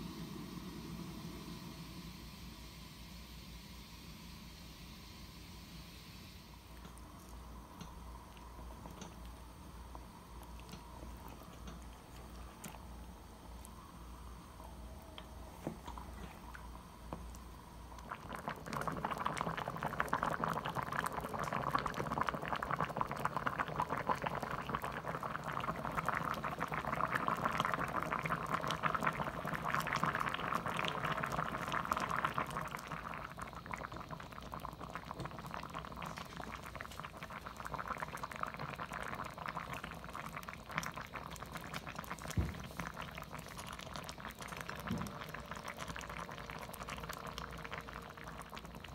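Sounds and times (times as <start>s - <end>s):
stew bubbling in a pot: 0.0s - 48.9s.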